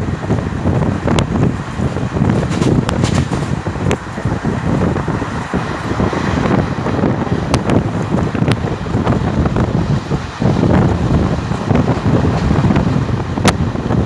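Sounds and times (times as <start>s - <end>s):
train wheels rumbling on track: 0.0s - 14.0s
wind buffeting microphone: 0.0s - 14.0s.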